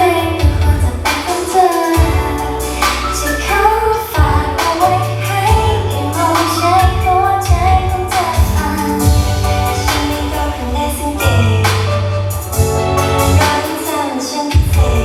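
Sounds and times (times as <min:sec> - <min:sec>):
bass and drum beat: 0:00.0 - 0:15.0
woman singing pop song: 0:00.0 - 0:15.0.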